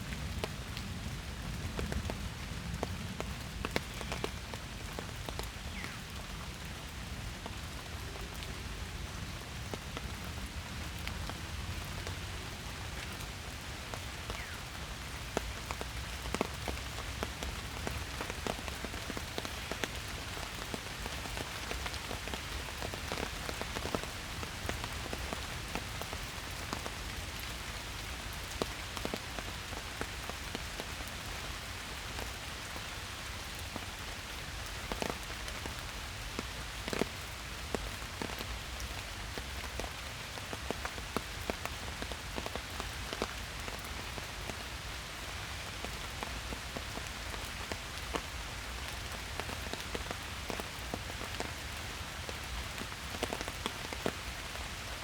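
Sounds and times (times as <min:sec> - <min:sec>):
hiss of steady downpour: 0:00.0 - 0:55.0
rain drops ticking close by: 0:00.0 - 0:55.0.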